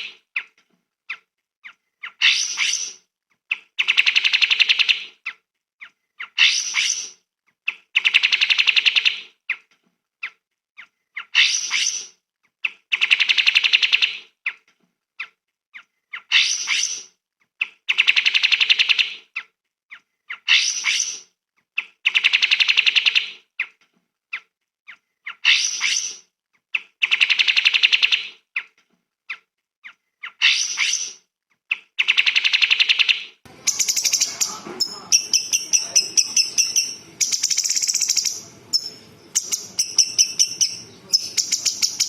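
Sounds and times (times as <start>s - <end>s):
recorded songbird call: 0.0s - 5.4s, 6.2s - 9.6s, 11.1s - 14.6s, 16.1s - 19.5s, 20.3s - 23.8s, 25.3s - 28.7s, 30.2s - 42.0s.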